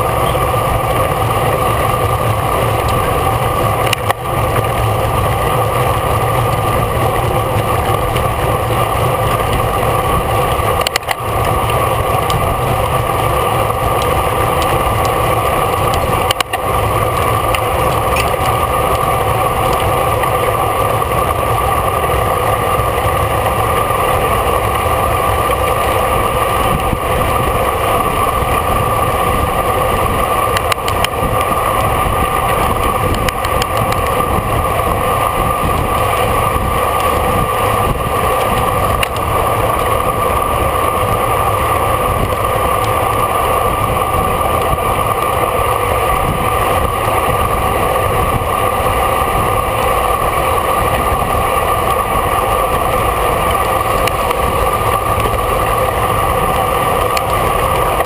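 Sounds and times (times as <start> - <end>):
constant hum: 0.0 - 58.0
wind and road rush: 0.0 - 58.0.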